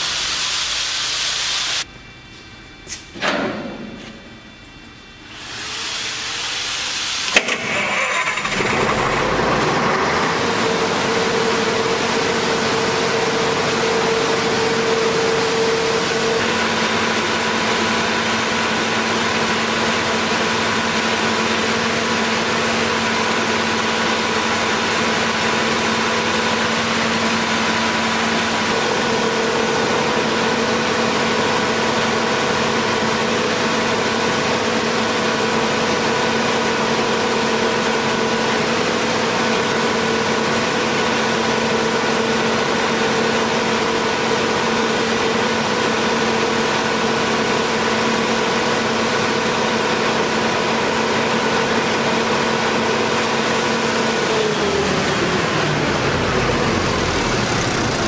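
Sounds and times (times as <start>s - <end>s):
diesel generator droning: 2.9s - 58.0s.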